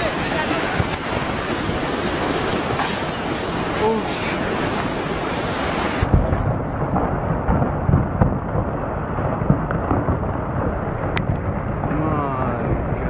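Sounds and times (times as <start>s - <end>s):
rockslide rumbling: 0.0s - 13.0s.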